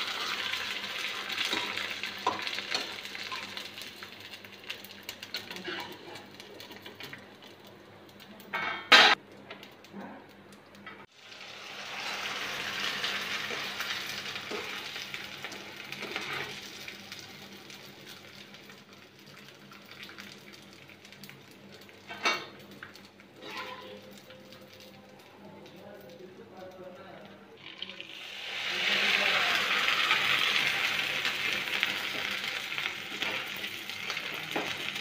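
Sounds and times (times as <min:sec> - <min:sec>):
food sizzling in hot oil: 0:00.0 - 0:07.6, 0:11.0 - 0:25.2, 0:27.6 - 0:35.0.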